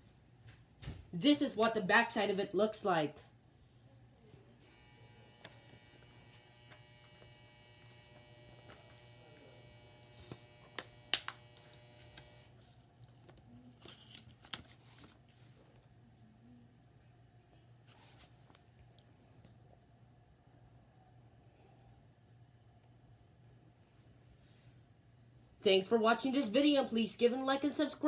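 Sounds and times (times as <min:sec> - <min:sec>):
faint electrical hum: 0:00.0 - 0:28.0.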